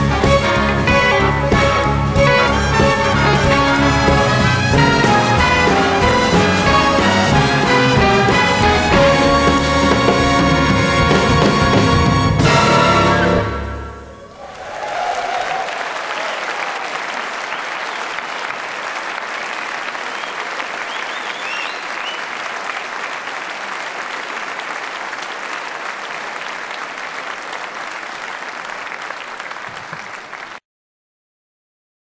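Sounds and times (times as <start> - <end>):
audience applauding: 0.0 - 13.4, 14.1 - 30.6
audience cheering: 0.0 - 30.6.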